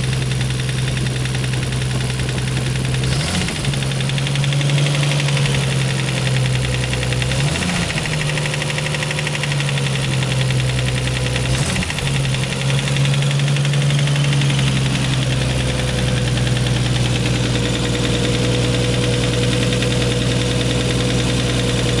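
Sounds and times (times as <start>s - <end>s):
engine idling with loud clacking: 0.0s - 22.0s.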